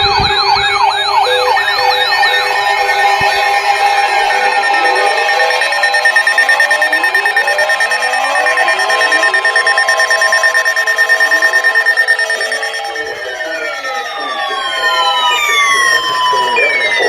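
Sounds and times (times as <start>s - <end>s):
pulsing electronic alarm tone: 0.0s - 17.0s
warning sirens wailing: 0.0s - 17.0s.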